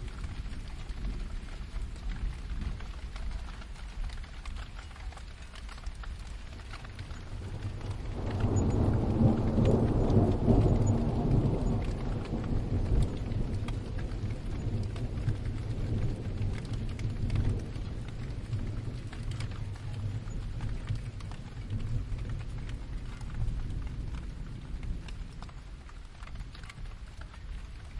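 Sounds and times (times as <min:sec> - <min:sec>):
low roll of thunder: 0:00.0 - 0:27.9
steady rain: 0:00.0 - 0:27.9.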